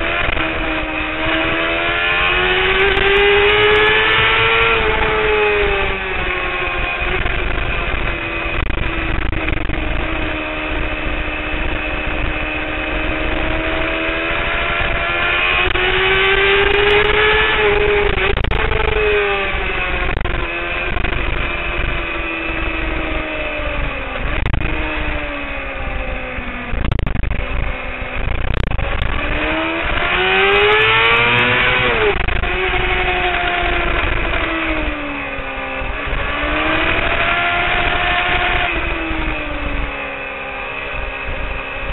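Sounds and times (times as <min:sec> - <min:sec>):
motorcycle engine revving: 0:00.0 - 0:41.9
wind rush on microphone: 0:00.0 - 0:41.9.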